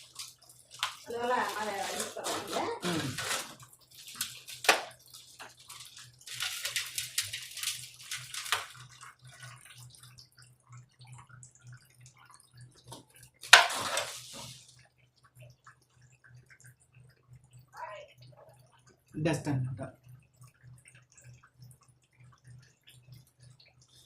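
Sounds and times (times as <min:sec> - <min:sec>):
water splashing and trickling: 0:00.0 - 0:24.0.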